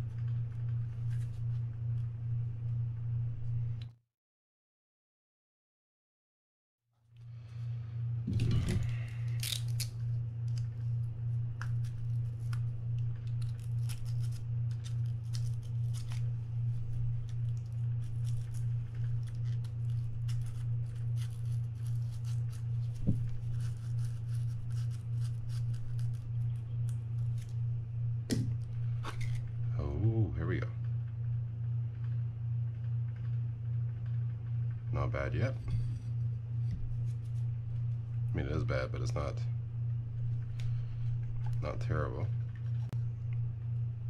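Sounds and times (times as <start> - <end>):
pulsing machine hum: 0.0 - 3.9, 7.2 - 44.0.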